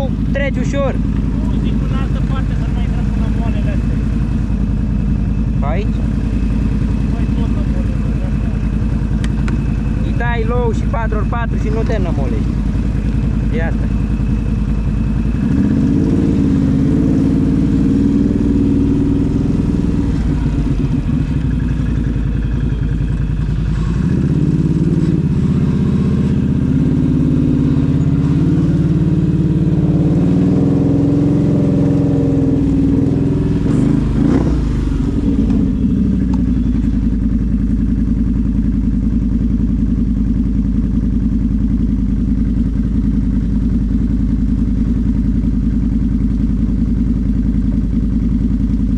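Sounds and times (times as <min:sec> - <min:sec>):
atv engine revving: 0:00.0 - 0:45.8.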